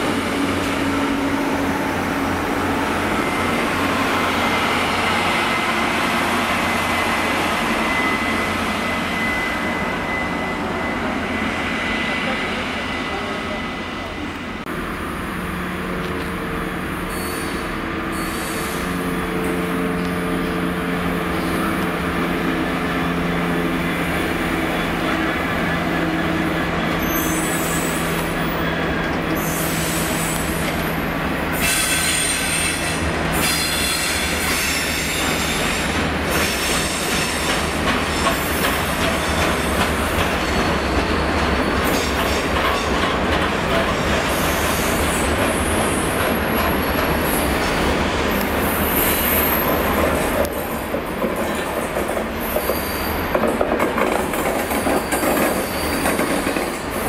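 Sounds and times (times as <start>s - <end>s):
diesel locomotive engine: 0.0s - 57.0s
wagon wheels squealing on rails: 2.7s - 14.3s, 16.8s - 57.0s.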